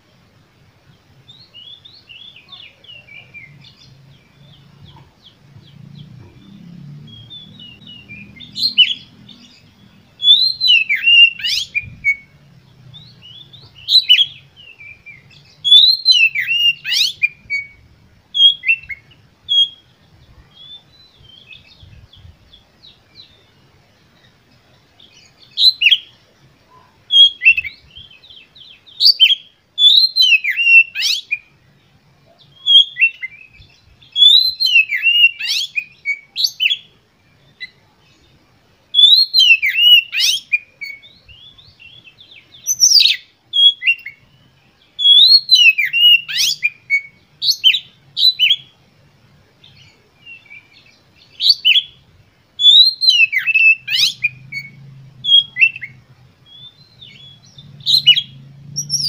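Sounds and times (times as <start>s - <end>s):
bird song whistles and chirps: 0.9s - 48.8s, 49.6s - 52.0s, 52.6s - 59.0s.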